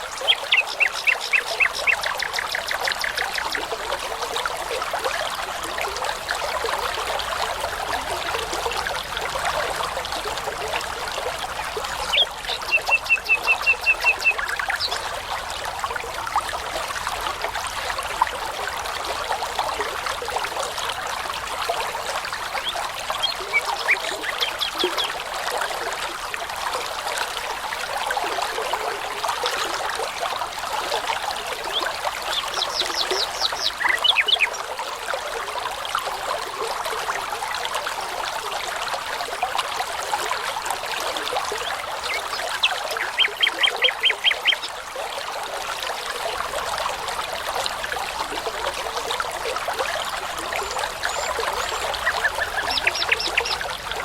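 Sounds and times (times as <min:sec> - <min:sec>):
babbling brook: 0:00.0 - 0:54.0.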